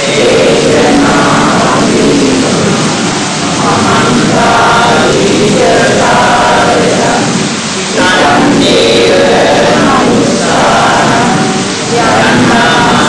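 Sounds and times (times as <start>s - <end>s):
loud steady hiss: 0.0s - 13.0s
person's voice: 0.0s - 13.0s.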